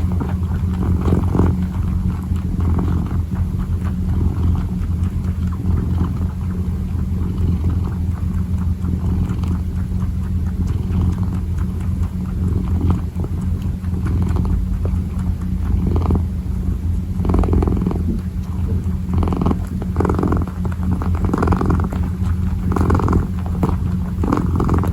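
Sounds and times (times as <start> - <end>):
kitten purring: 0.0 - 24.9.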